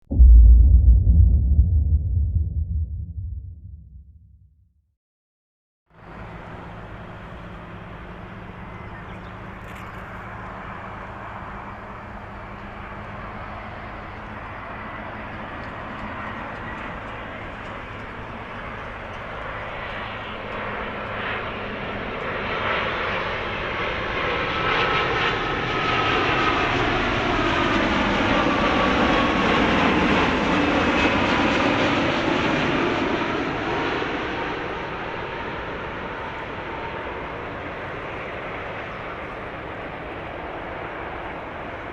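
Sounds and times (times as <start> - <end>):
jet airliner engines: 6.0 - 41.9.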